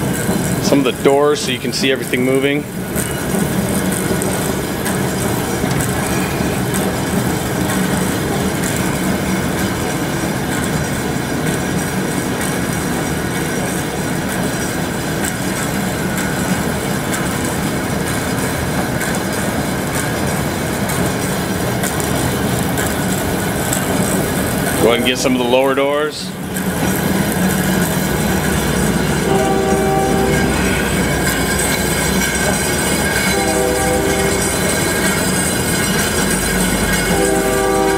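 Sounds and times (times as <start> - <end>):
band saw running: 0.0 - 37.9.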